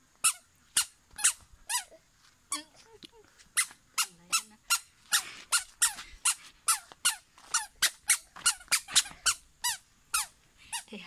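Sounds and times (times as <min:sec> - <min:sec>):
squeaky shoes squeaking: 0:00.2 - 0:02.8, 0:03.6 - 0:10.3.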